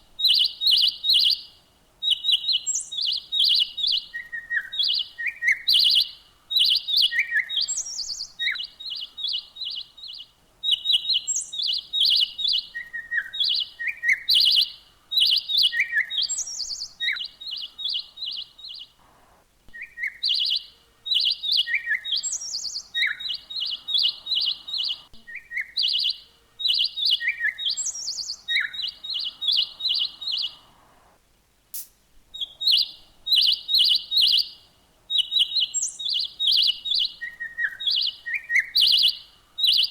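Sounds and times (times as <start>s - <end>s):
songbird singing: 0.0s - 31.2s, 31.8s - 39.9s.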